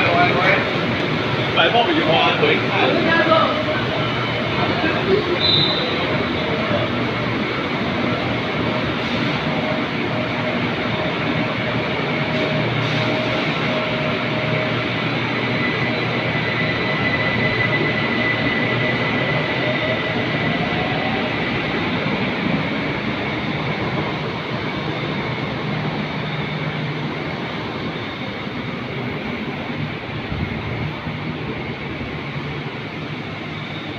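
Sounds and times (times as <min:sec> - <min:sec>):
electric train noise: 0:00.0 - 0:33.9.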